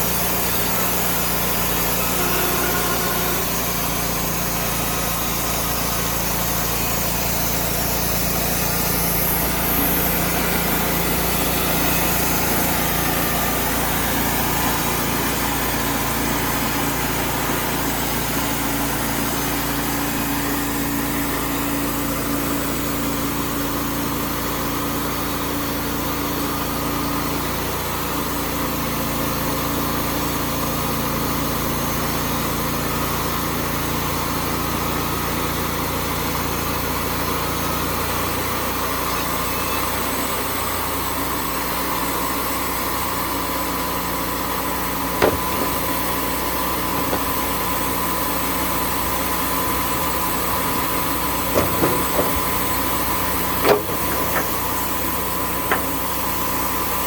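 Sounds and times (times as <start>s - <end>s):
band sawmill running: 0.0s - 57.0s.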